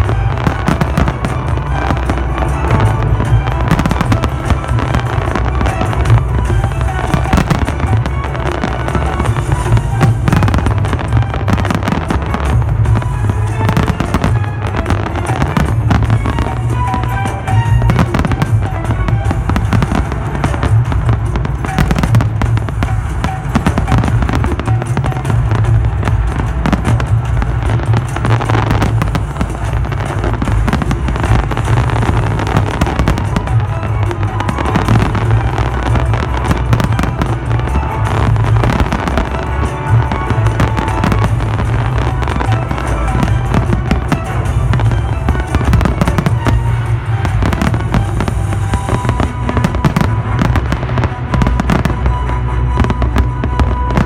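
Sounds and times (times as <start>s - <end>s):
fireworks bangs and crackling: 0.0s - 54.0s
music playing: 0.0s - 54.0s.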